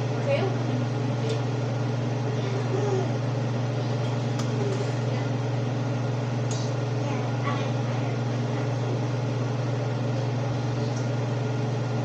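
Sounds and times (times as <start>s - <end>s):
appliance motor humming: 0.0s - 12.0s.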